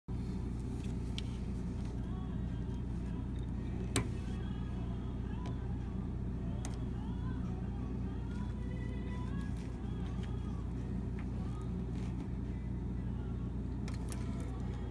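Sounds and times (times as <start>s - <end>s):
water heater electrical buzz: 0.1s - 14.9s.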